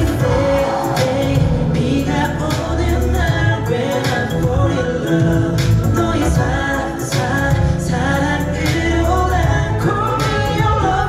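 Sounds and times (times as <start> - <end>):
backing track with drums and bass: 0.0 - 11.0
male voices singing pop song: 0.0 - 11.0.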